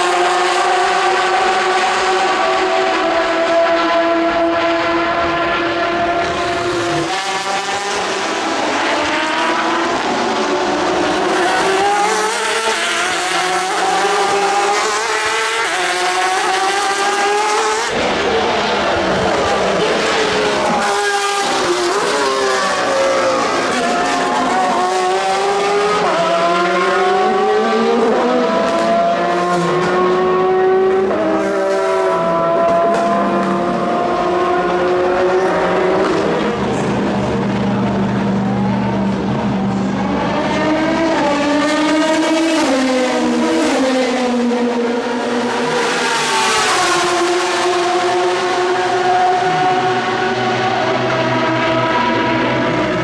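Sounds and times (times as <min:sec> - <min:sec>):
race car engines at full throttle: 0:00.0 - 0:53.0.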